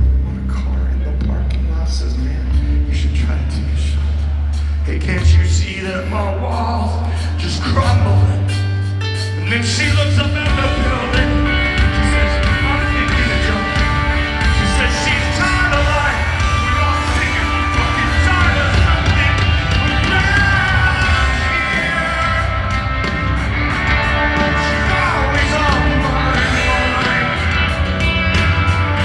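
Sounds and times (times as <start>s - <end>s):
rock band playing: 0.0s - 29.0s
person singing: 3.7s - 29.0s.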